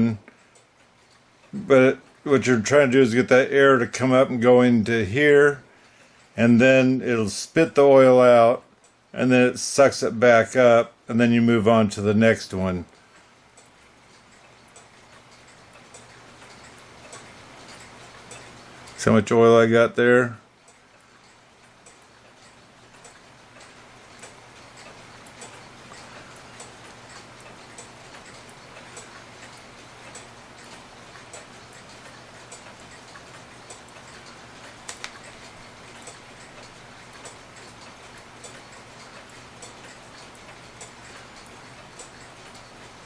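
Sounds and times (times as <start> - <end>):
faint steady hum: 0.0 - 43.0
mechanical clock ticking: 0.0 - 43.0.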